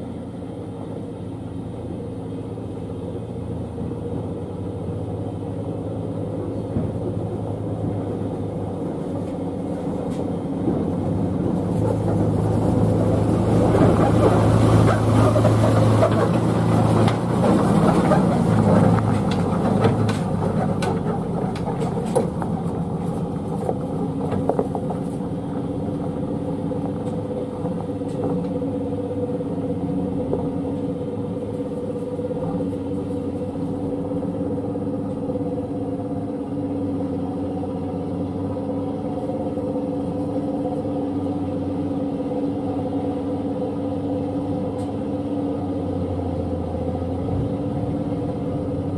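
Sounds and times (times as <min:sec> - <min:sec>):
diesel truck engine running: 0:00.0 - 0:48.9
engine knocks and rattles: 0:00.0 - 0:48.9.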